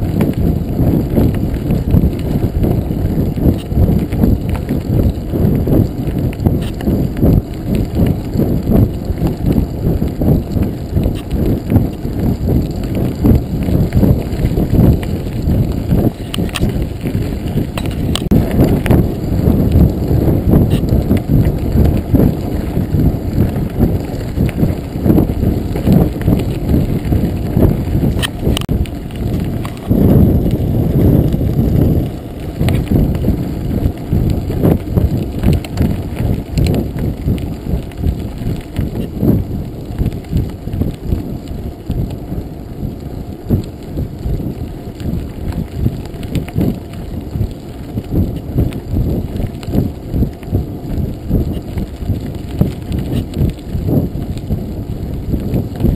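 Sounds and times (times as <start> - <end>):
bike knocking and rattling: 0.0 - 55.9
bike tyres rumbling on gravel: 0.0 - 55.9.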